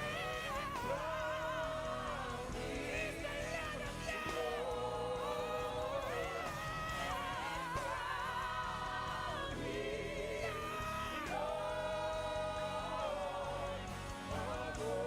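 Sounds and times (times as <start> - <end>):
gospel worship singing: 0.0 - 15.0.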